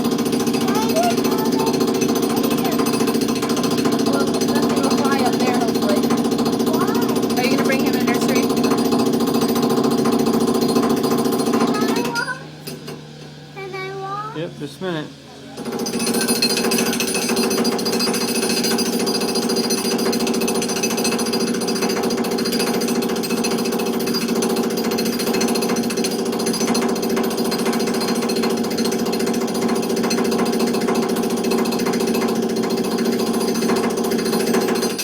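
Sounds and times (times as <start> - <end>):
jackhammer breaking concrete: 0.0 - 13.0, 15.6 - 35.0.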